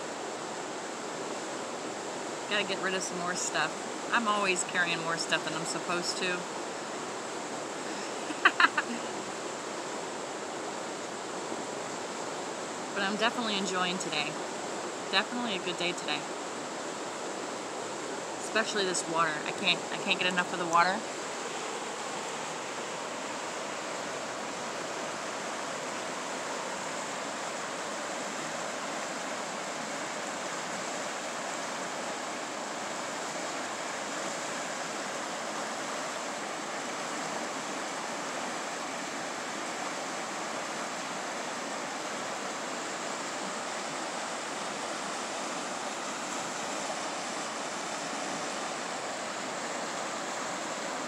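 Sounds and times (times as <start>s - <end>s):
river rushing over rapids: 0.0s - 51.0s.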